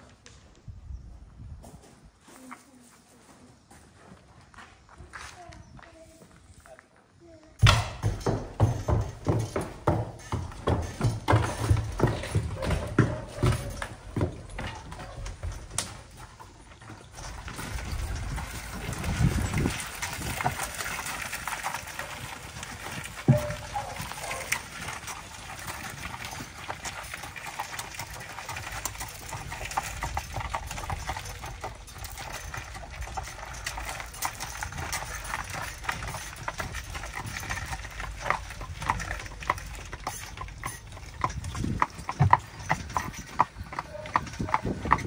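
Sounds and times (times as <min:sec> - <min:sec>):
hooves clip-clopping on gravel: 0:01.6 - 0:45.0.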